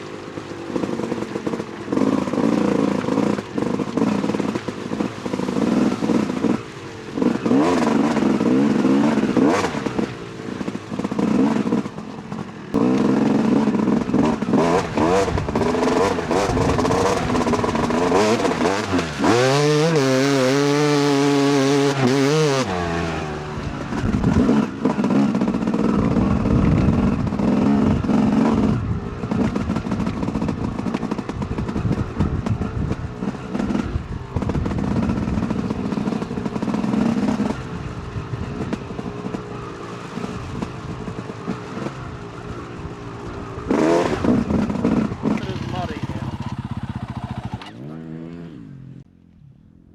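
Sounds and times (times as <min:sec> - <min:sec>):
dirt bike engine revving: 0:00.0 - 0:49.7.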